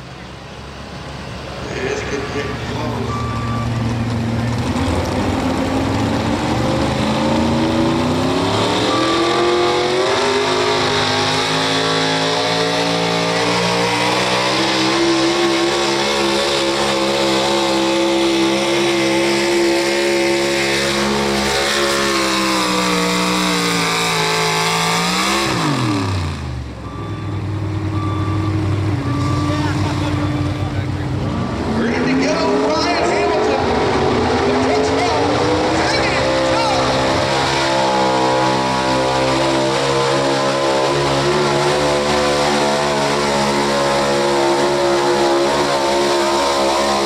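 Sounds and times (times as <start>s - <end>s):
pulling truck engine revving: 0.0s - 47.0s.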